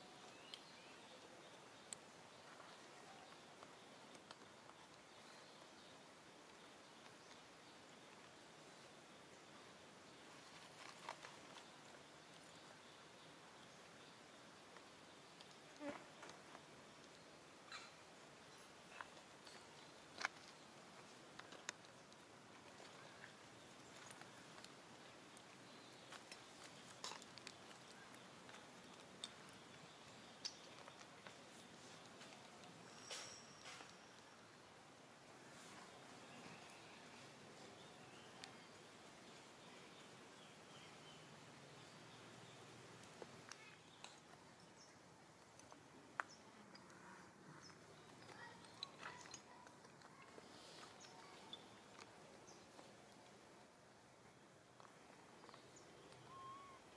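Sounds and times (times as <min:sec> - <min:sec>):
faint hiss: 0:00.0 - 0:56.9
faint outdoor ambience: 0:00.0 - 0:56.9.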